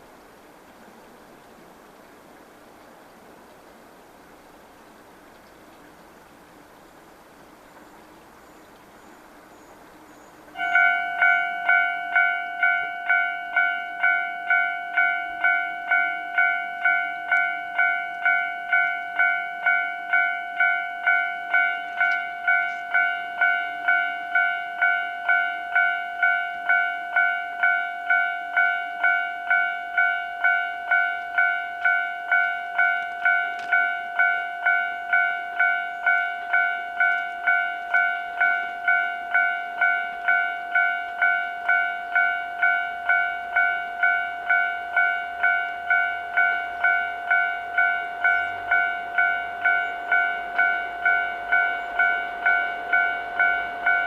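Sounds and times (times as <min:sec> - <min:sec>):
level crossing alarm ringing: 0:10.6 - 0:54.0.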